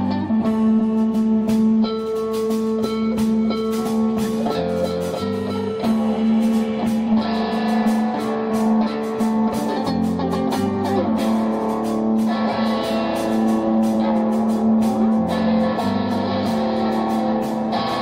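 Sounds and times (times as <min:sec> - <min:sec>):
electric guitar strumming: 0:00.0 - 0:18.0.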